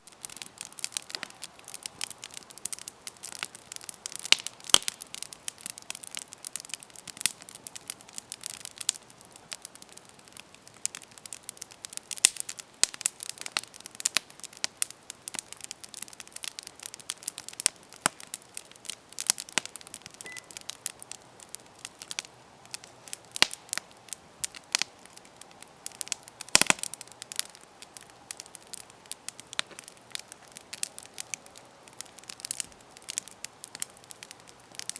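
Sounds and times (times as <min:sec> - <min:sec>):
campfire wood crackling: 0:00.0 - 0:34.9
faint low hiss: 0:00.0 - 0:34.9.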